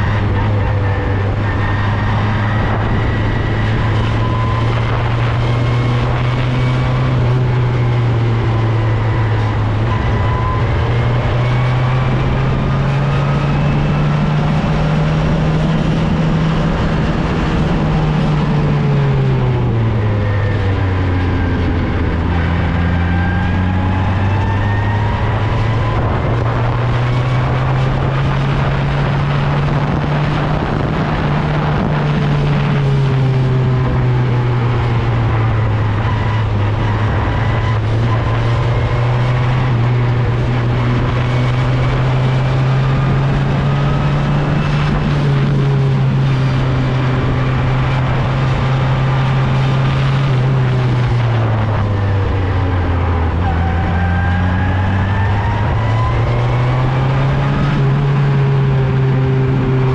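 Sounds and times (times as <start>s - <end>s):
race car engine at speed: 0.0s - 59.9s
wind and road noise: 0.0s - 59.9s.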